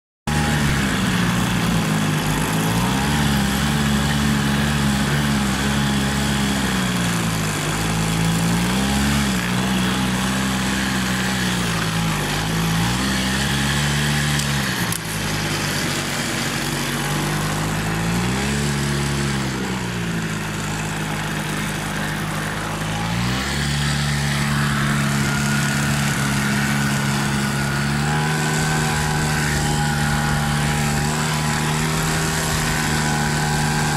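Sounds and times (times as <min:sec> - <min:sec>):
quad bike engine revving: 0:00.3 - 0:33.9.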